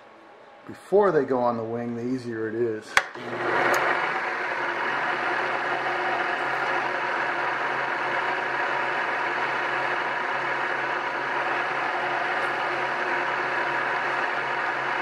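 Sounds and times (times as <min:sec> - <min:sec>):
drill press whirring: 0:02.9 - 0:15.0.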